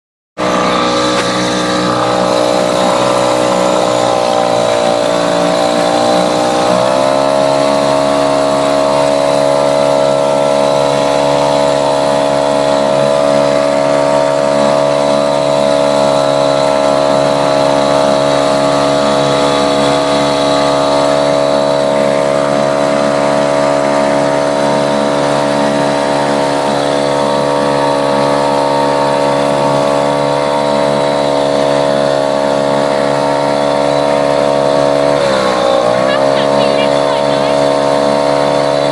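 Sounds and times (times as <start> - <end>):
outboard motor running: 0.4 - 38.9.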